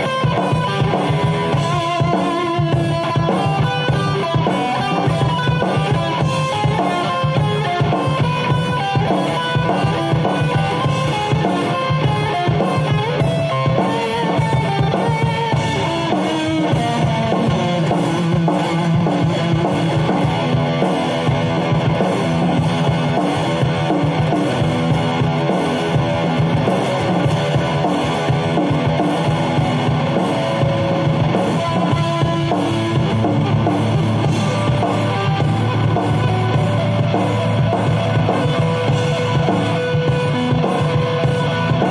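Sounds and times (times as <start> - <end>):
electric guitar lead lines: 0.0 - 41.9
rock backing track with drums: 0.0 - 41.9.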